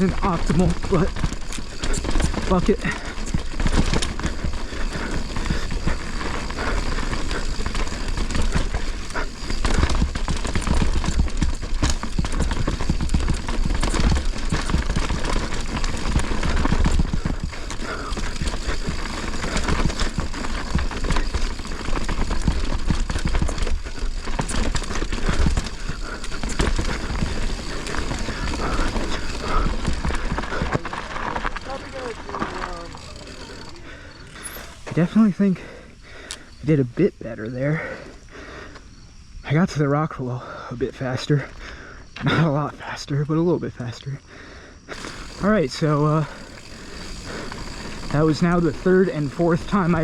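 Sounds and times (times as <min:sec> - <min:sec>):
bike tyres rattling over rocks: 0:00.0 - 0:38.8, 0:44.9 - 0:50.0.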